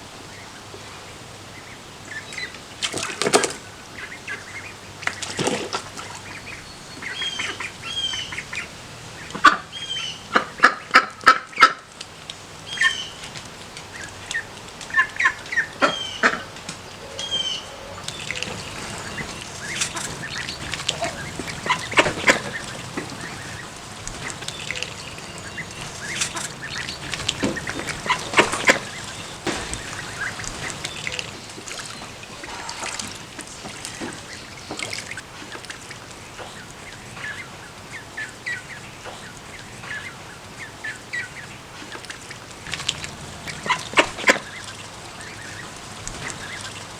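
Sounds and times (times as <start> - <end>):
ducklings peeping: 0.2 - 46.9
adult ducks quacking: 0.3 - 46.9.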